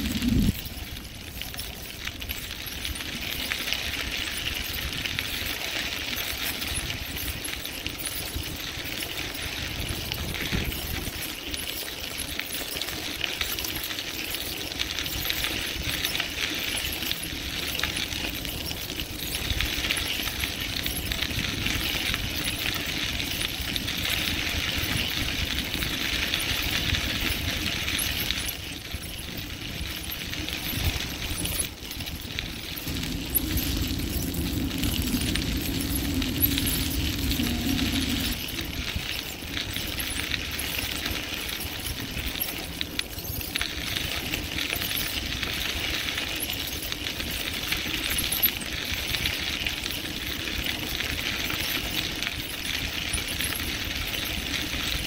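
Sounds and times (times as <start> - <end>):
wind rumble on microphone: 0.0 - 11.5, 14.9 - 55.0
bicycle tyres on gravel trail: 0.0 - 55.0.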